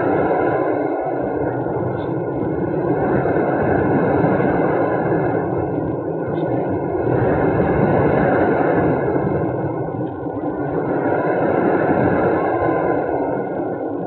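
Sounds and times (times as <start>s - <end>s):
air rushing over microphone: 0.0s - 14.0s.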